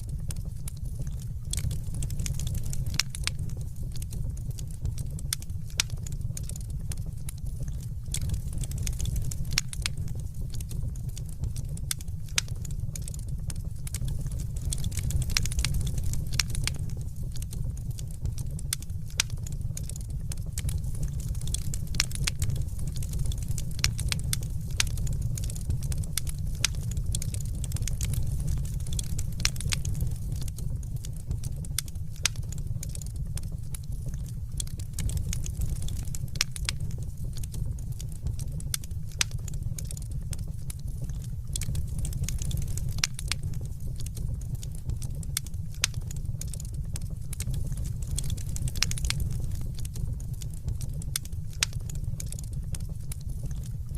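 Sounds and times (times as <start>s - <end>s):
fire crackling: 0.0s - 53.9s.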